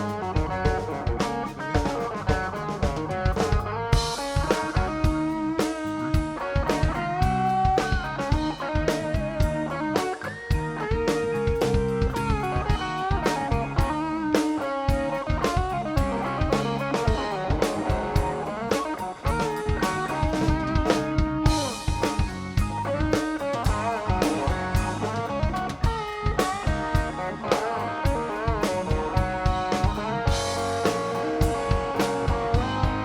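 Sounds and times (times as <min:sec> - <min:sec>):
drum kit beat: 0:00.0 - 0:33.0
electric guitar lead bending notes: 0:00.0 - 0:33.0.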